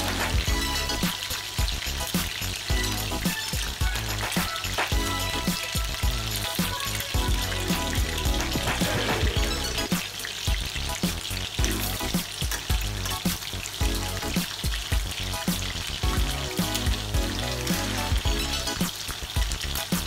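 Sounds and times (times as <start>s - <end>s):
background music with beat: 0.0s - 20.0s
chicken sizzling in hot oil: 0.0s - 20.0s.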